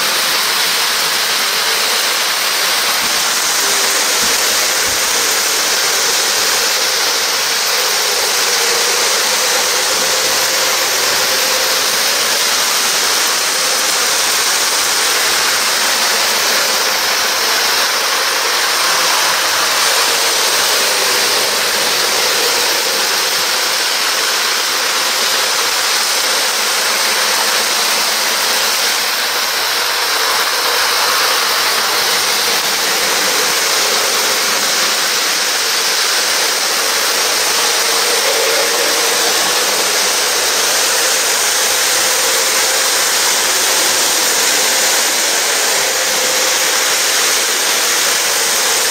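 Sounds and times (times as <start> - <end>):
model train whirring: 0.0 - 48.9.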